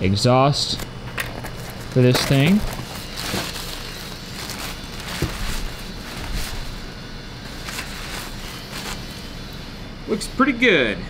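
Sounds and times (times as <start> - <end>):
packing paper rustling and crinkling: 0.6 - 9.7.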